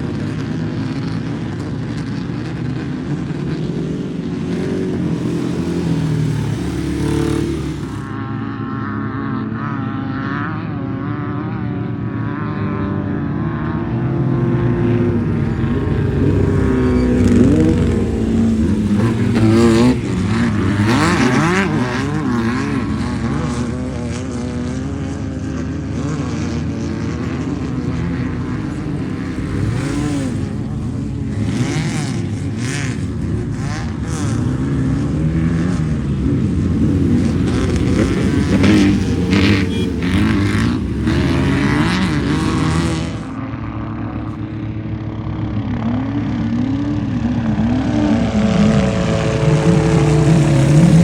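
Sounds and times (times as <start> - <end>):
race car engine revving: 0.0 - 8.3, 13.5 - 43.4, 46.0 - 51.0.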